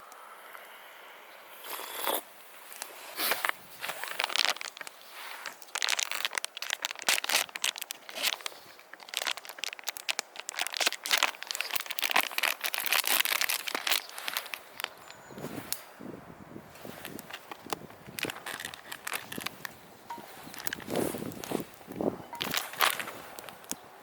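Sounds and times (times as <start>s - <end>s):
fabric or plastic rustling: 2.7s - 15.7s, 16.7s - 23.8s.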